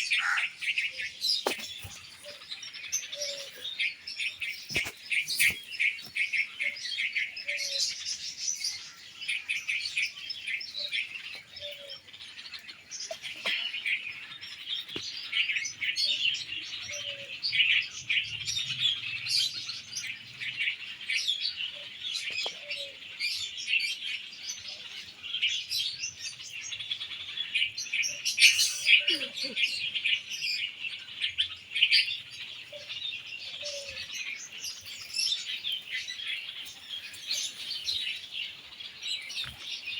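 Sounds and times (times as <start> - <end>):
baby birds chirping: 0.0 - 23.5, 24.2 - 39.9.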